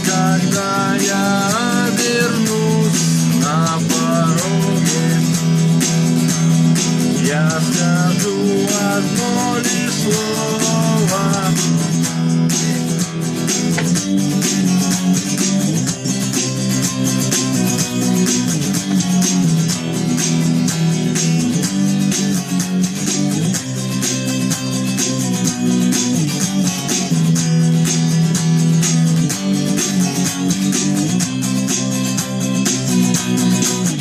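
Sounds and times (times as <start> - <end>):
instrumental rock music: 0.0 - 34.0.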